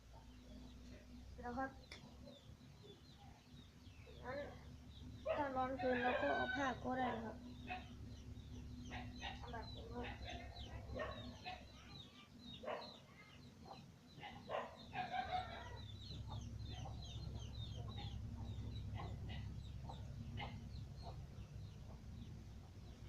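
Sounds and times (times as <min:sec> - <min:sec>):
chickens clucking: 0:04.2 - 0:23.0.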